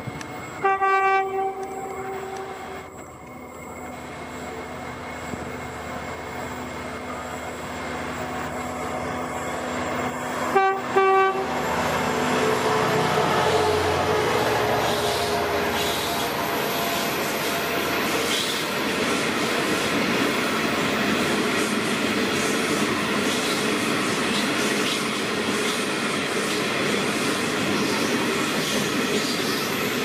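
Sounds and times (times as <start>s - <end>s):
locomotive engine hum: 0.0s - 24.6s.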